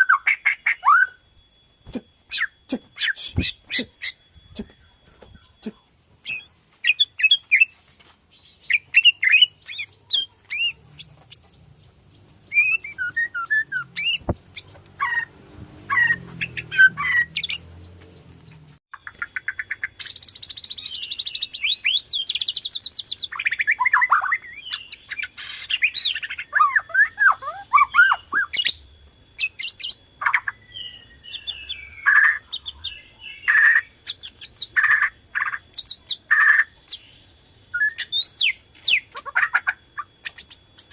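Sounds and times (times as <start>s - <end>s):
songbird whistles and trills: 0.0s - 40.9s.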